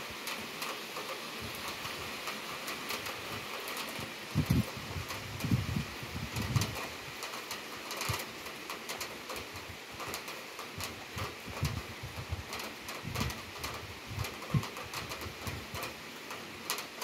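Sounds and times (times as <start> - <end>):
heavy rain hissing: 0.0 - 17.0
raindrops ticking on hard surfaces: 0.0 - 17.0.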